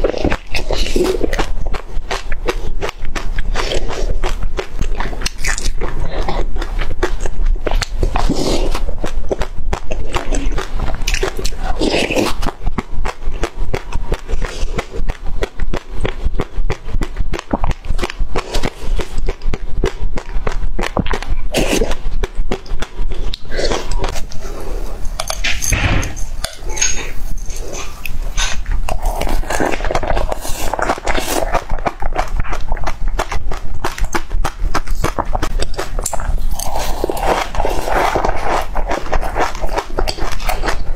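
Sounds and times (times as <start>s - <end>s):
chewing crunchy seeds: 0.0s - 40.9s.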